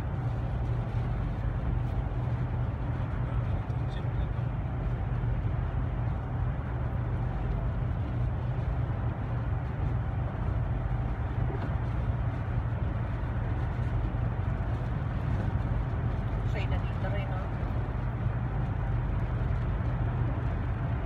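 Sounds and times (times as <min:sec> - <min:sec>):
car road noise in cabin: 0:00.0 - 0:21.0.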